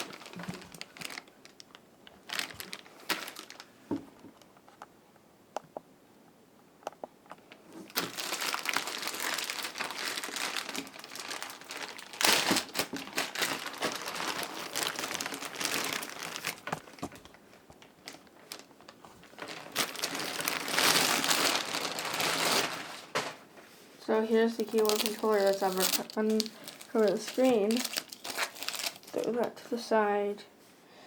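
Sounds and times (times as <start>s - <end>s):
plastic wrapping crinkling: 0.0s - 4.8s, 7.3s - 23.5s, 24.2s - 29.6s.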